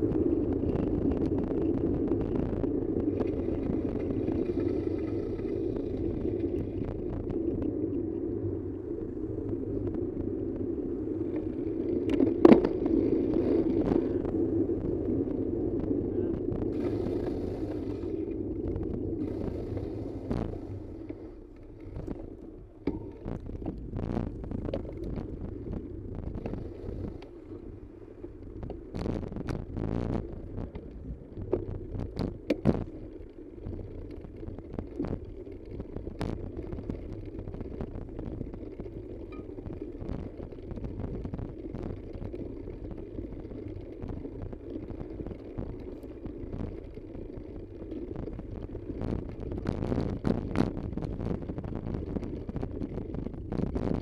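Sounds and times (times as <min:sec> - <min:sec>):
road travel rumble: 0:00.0 - 0:54.0
wind buffeting microphone: 0:00.0 - 0:54.0.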